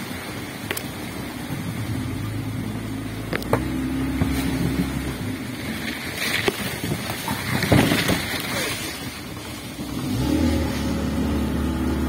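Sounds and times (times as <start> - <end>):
speedboat motor running: 0.1 - 12.0.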